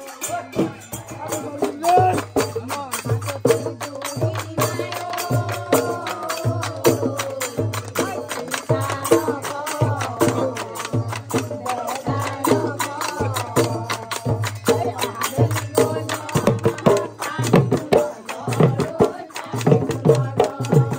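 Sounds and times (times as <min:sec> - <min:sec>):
dhol drum beating: 0:00.0 - 0:20.9
group folk singing: 0:00.0 - 0:20.9
rapid sharp clapping: 0:01.7 - 0:20.9.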